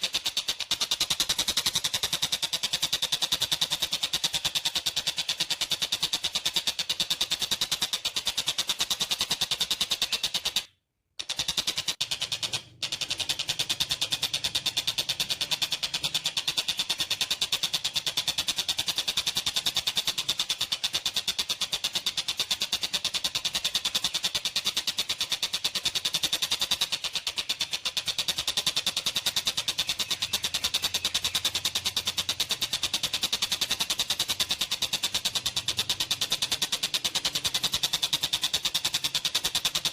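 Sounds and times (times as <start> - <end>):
bird calling in rapid rattle: 0.0 - 39.9.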